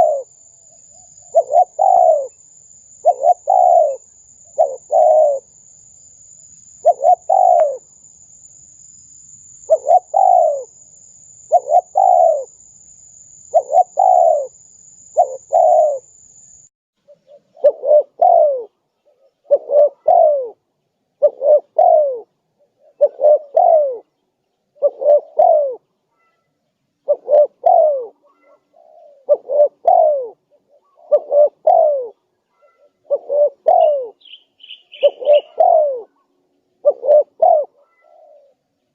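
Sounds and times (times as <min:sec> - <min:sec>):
dove cooing: 0:00.0 - 0:05.6, 0:06.8 - 0:08.0, 0:09.6 - 0:10.8, 0:11.4 - 0:12.6, 0:13.4 - 0:16.2, 0:17.1 - 0:24.1, 0:24.7 - 0:38.7.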